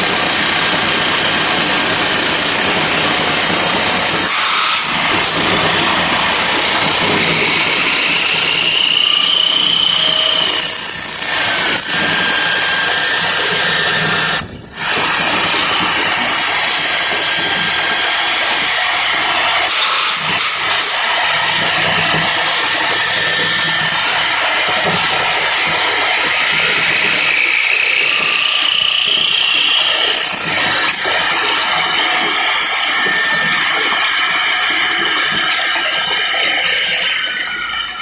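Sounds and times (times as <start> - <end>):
lathe running: 0.0 - 38.0.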